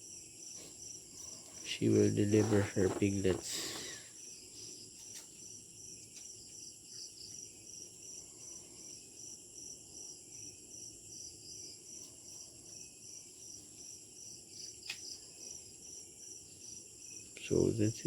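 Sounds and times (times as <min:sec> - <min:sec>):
crickets chirping: 0:00.0 - 0:18.0
high-pitched insect trill: 0:00.0 - 0:18.0.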